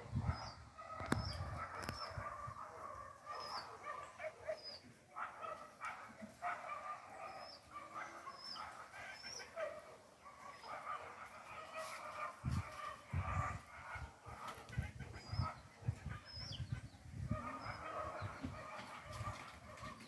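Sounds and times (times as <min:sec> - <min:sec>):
dense chatter of animal calls: 0:00.0 - 0:20.0.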